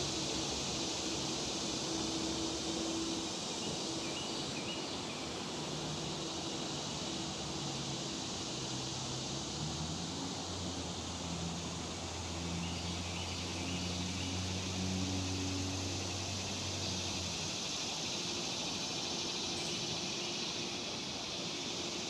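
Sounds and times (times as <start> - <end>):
chorus of insects: 0.0 - 22.0.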